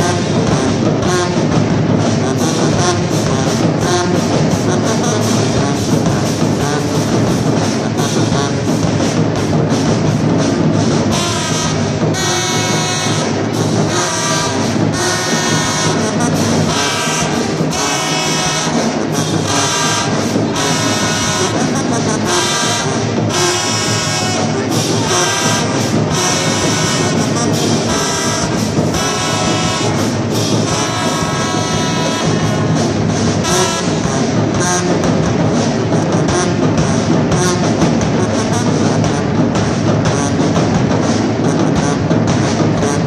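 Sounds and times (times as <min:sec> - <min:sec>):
marching band brass playing chords: 0:00.0 - 0:43.0.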